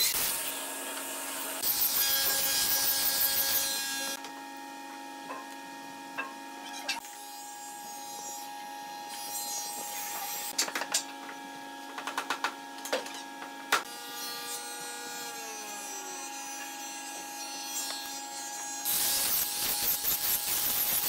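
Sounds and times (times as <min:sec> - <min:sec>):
workshop machinery hum: 0:00.0 - 0:21.0.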